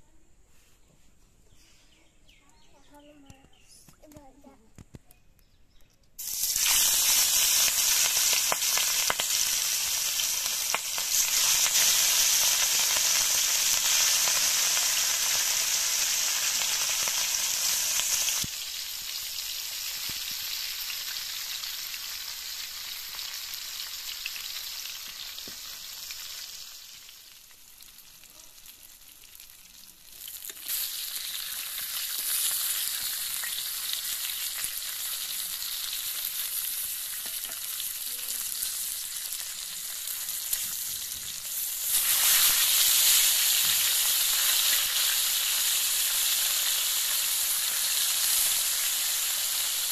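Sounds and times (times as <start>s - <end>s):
fish sizzling in hot oil: 6.2s - 49.9s.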